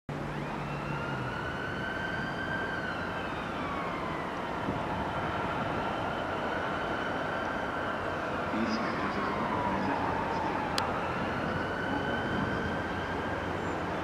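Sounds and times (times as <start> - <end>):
locomotive low rumble: 0.1 - 14.0.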